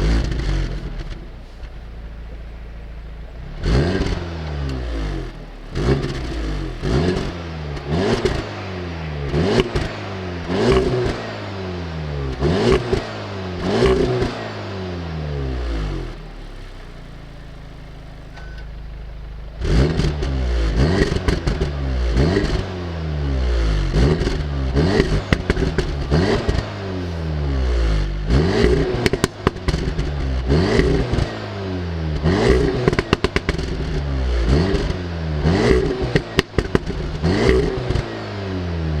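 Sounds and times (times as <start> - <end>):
exhaust crackles and pops: 0.0 - 14.7, 15.3 - 38.2
car engine idling and revving: 0.0 - 39.0.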